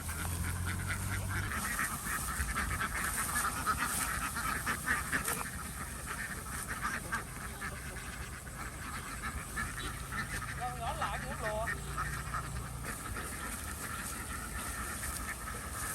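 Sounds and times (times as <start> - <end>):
ducks quacking: 0.0 - 15.9.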